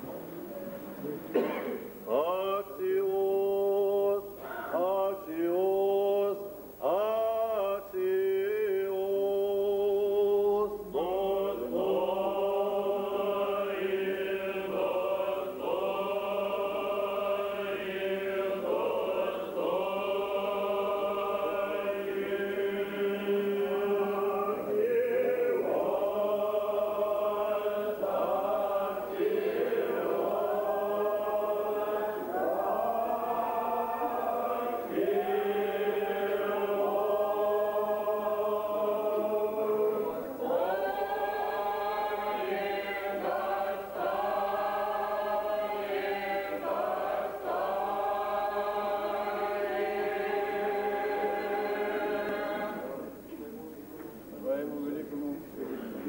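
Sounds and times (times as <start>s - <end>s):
choir chanting long notes: 2.1s - 53.1s.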